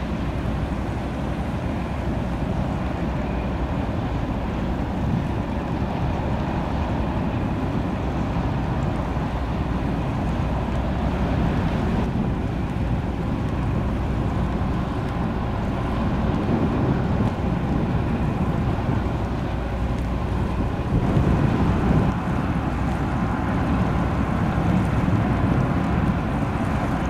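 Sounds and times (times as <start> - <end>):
tugboat diesel engines rumbling: 0.0 - 27.0
wind buffeting microphone: 0.0 - 27.0.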